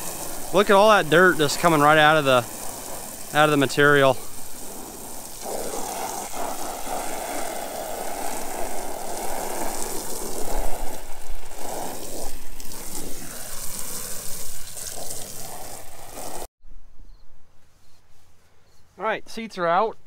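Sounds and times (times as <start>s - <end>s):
pressure washer spraying: 0.0s - 16.5s.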